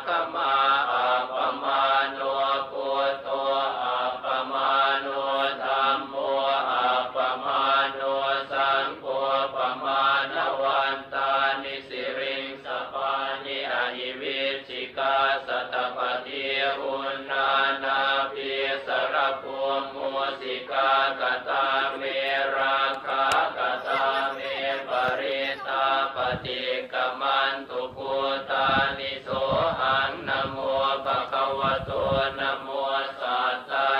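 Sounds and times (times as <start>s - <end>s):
voices chanting together: 0.0s - 33.9s.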